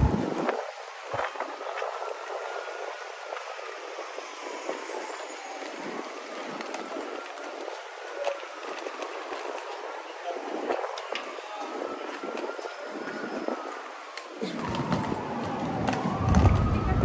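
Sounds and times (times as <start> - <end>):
faint siren wailing: 0.0 - 17.0.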